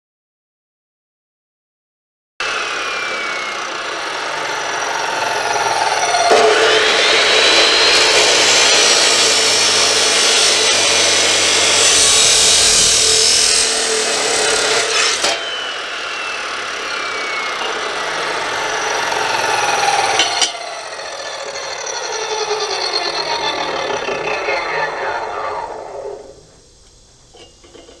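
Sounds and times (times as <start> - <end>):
saw grinding through steel: 2.4 - 26.4
motor winding down whine: 2.4 - 27.3.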